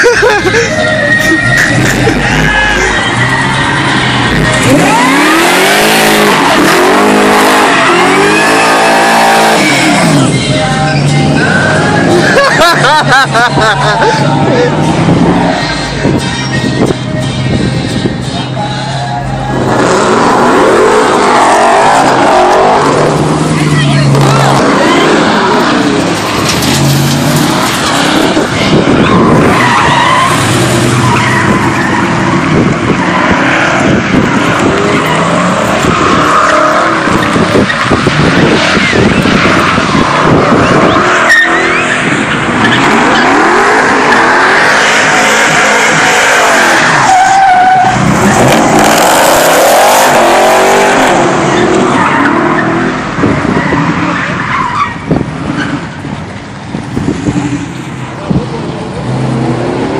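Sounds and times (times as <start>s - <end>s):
tyres squealing on pavement: 0.0s - 17.6s, 18.2s - 56.3s
truck engine revving: 0.0s - 54.4s.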